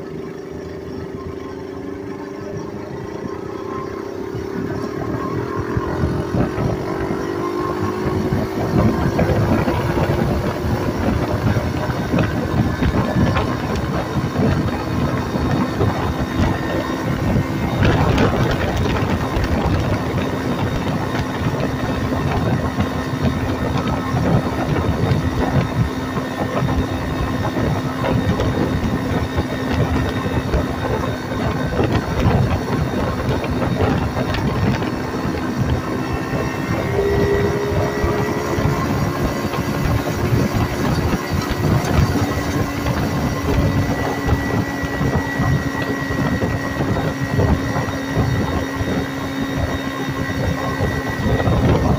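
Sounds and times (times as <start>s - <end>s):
small engine humming: 0.0s - 51.9s
wind and road noise: 0.0s - 51.9s.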